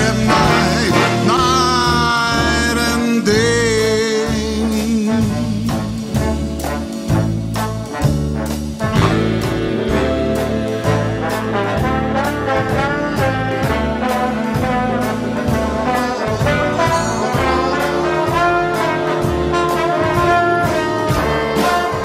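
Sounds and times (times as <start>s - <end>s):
bass line: 0.0s - 22.0s
steady cymbal beat: 0.0s - 22.0s
swing big band playing: 0.0s - 22.0s
trombones and saxophones: 0.0s - 22.0s.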